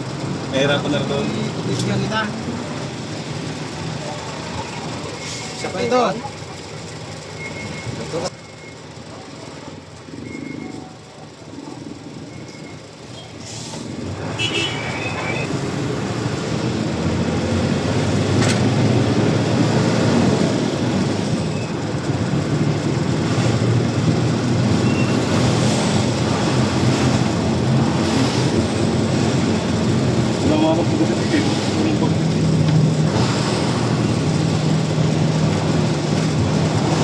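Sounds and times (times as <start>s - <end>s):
truck engine rumble and road noise: 0.0s - 37.0s.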